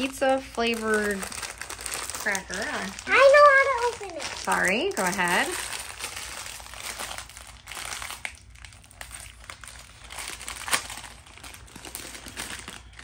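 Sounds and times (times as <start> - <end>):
snack bag crinkling: 0.0 - 13.0.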